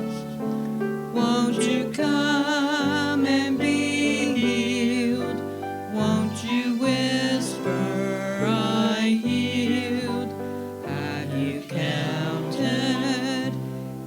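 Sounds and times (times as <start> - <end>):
slow church music: 0.0 - 14.0.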